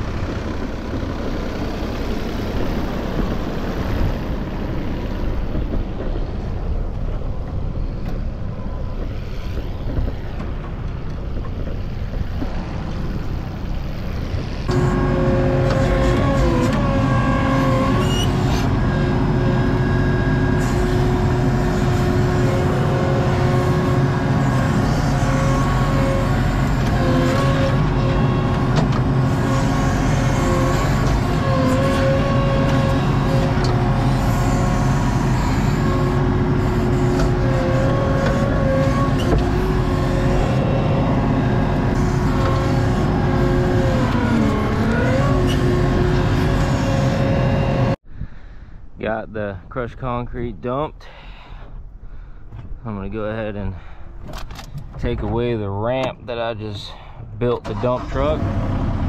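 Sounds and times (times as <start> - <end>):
diesel engine running: 0.0 - 48.1, 51.4 - 59.0.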